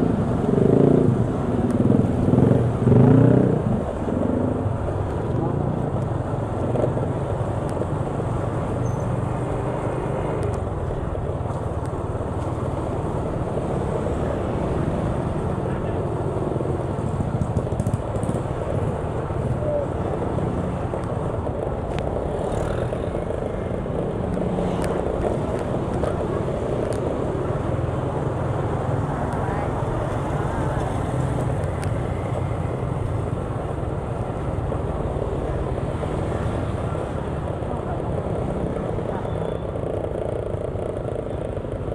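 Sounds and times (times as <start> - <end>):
vehicle engine and road noise: 0.0 - 41.9.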